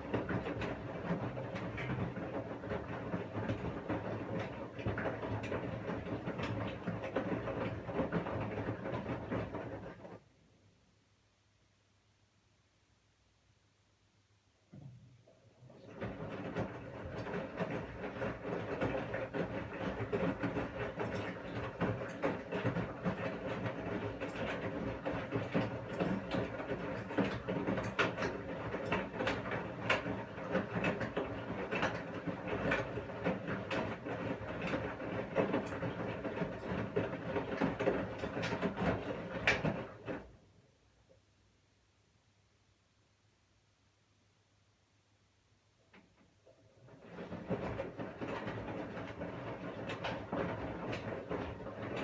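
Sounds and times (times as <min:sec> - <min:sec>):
washing machine motor hum: 0:00.0 - 0:10.4, 0:14.7 - 0:40.8, 0:45.8 - 0:52.0.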